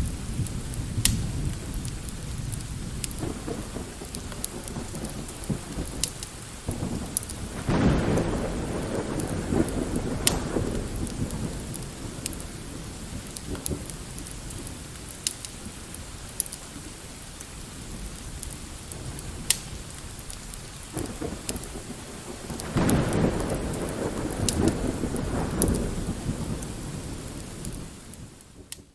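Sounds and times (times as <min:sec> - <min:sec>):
distant rolling thunder: 0:00.0 - 0:15.9, 0:20.8 - 0:28.8
light rain: 0:00.0 - 0:28.9.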